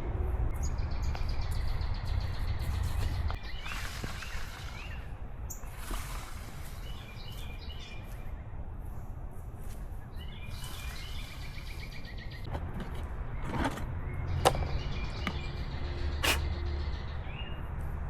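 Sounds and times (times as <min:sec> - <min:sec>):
birds chirping: 0:00.5 - 0:08.6, 0:09.6 - 0:17.9.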